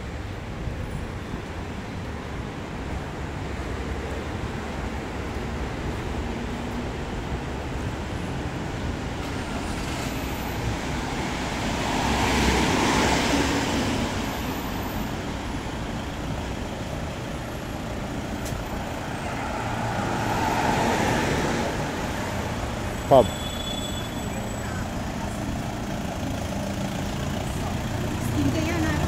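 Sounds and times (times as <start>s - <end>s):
traffic hum: 0.0s - 29.0s
vehicles passing close by: 0.0s - 29.0s.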